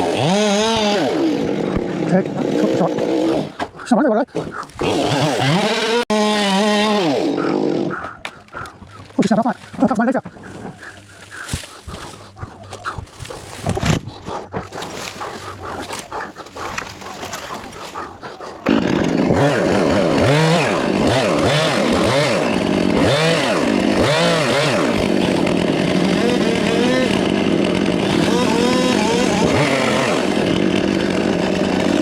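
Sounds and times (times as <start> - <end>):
chainsaw revving: 0.0 - 13.8, 14.6 - 32.0.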